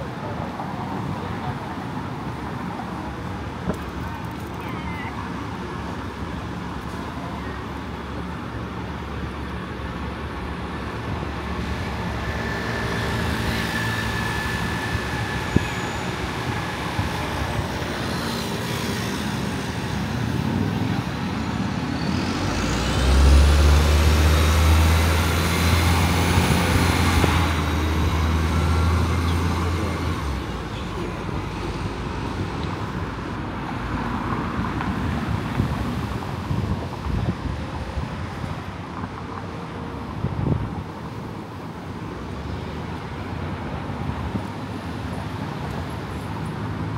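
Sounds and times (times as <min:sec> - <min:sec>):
city street traffic: 0:00.0 - 0:46.9
heavy vehicle engine drone: 0:00.0 - 0:46.9.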